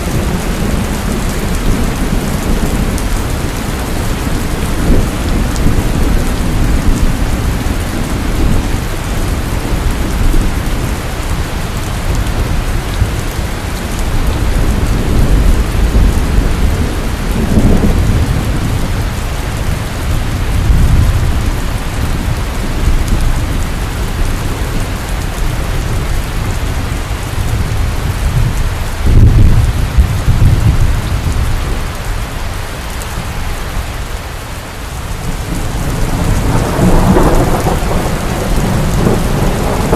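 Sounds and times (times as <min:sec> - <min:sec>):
low rolling thunder: 0:00.0 - 0:32.2, 0:35.0 - 0:39.9
heavy rain hissing: 0:00.0 - 0:39.9.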